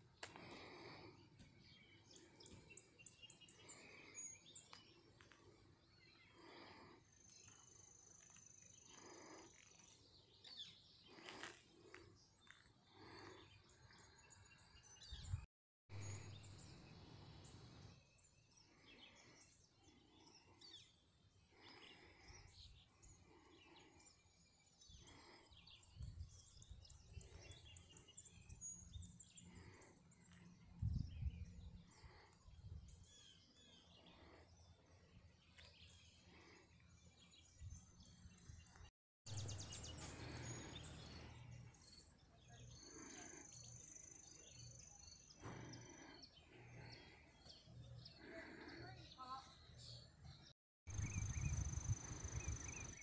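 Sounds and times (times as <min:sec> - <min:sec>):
bird chirps and twittering: 0:01.4 - 0:08.9, 0:16.0 - 0:53.0.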